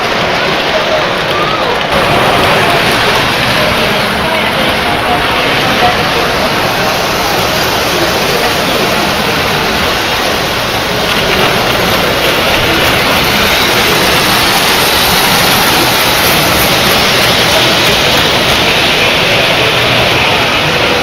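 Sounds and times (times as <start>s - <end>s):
model trains rolling on metal track: 0.0s - 21.0s.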